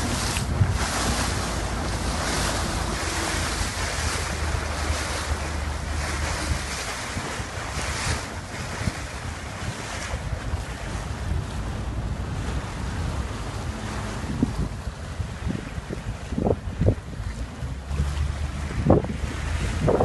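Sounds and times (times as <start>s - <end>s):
motorboat engine hum: 0.0s - 20.0s
water washing and splashing: 0.0s - 20.0s
wind buffeting microphone: 0.0s - 20.0s.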